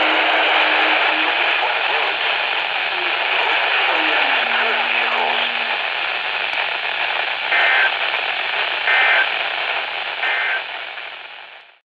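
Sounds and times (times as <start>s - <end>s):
radio static: 0.0s - 11.8s.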